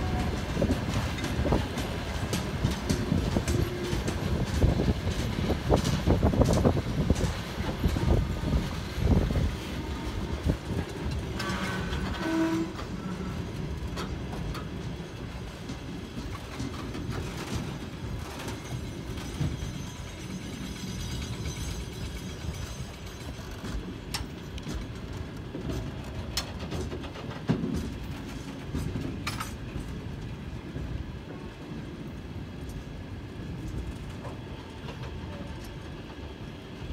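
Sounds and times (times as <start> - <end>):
freight train rumbling past: 0.0 - 36.9
wheels clacking over rail joints: 0.0 - 36.9.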